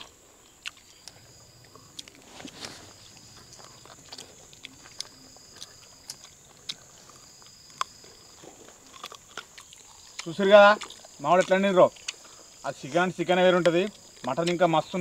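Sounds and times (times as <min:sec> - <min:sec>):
chewing clicks and smacks: 0:00.0 - 0:12.6, 0:13.6 - 0:15.0.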